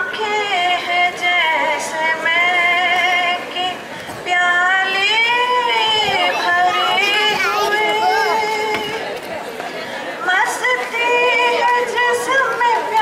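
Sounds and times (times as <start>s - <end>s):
woman singing unaccompanied: 0.0s - 9.0s, 10.2s - 13.0s.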